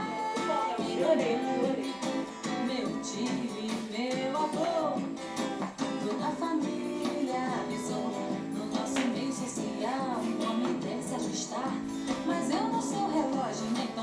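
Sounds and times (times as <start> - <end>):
guitar: 0.0 - 14.0.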